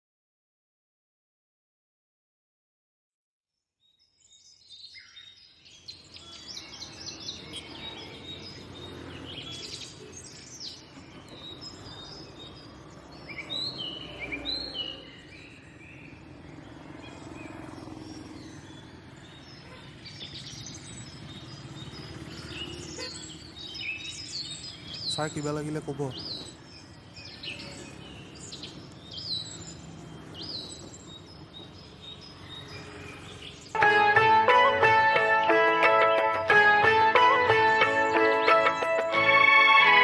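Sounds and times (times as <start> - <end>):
birds chirping and calling: 4.2 - 39.8.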